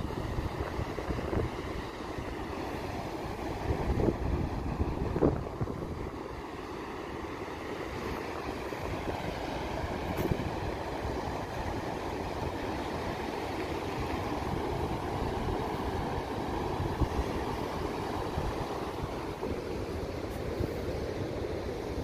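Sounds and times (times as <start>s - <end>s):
wind buffeting microphone: 0.0s - 2.4s, 3.0s - 6.4s, 8.0s - 22.0s
heavy surf breaking: 0.0s - 22.0s.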